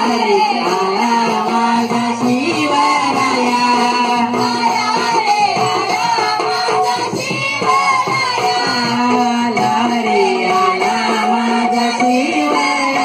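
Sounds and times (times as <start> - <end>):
hand drum beats: 0.0 - 13.0.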